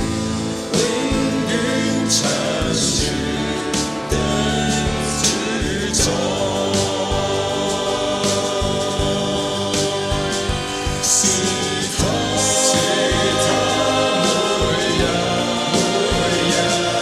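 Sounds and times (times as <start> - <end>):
band playing drum beat and chords: 0.0 - 17.0
choir singing held notes: 0.0 - 17.0.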